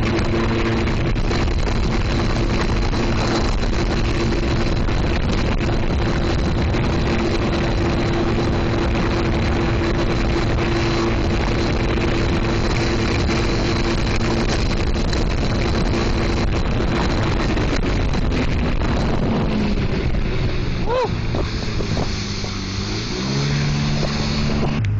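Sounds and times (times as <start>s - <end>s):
watercraft engine running: 0.0s - 24.9s
wind noise on microphone: 0.0s - 24.9s.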